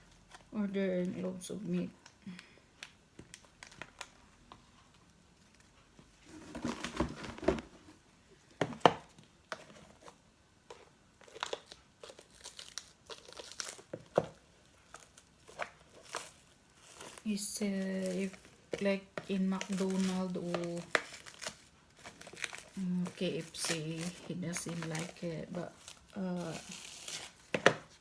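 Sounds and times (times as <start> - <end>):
plastic packaging crinkling: 0.2 - 7.8, 9.2 - 28.0.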